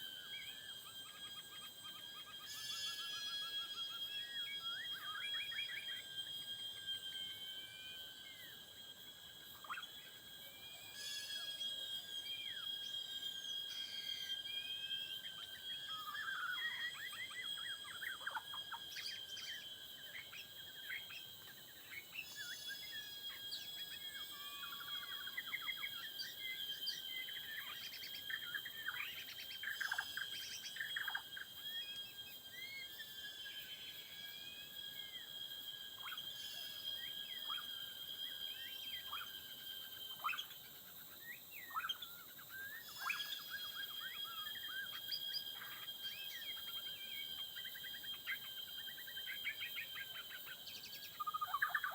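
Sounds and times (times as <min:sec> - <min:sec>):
songbirds singing: 0:00.0 - 0:33.5, 0:34.7 - 0:51.9
high-pitched insect drone: 0:00.0 - 0:51.9.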